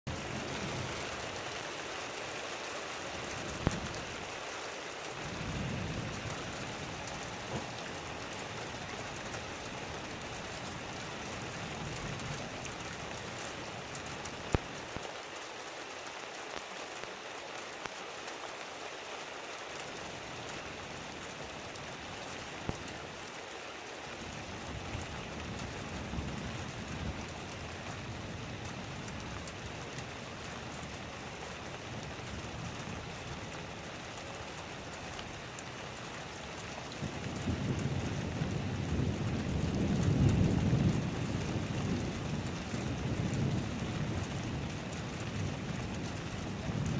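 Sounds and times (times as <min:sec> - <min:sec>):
heavy rain falling: 0:00.1 - 0:46.9.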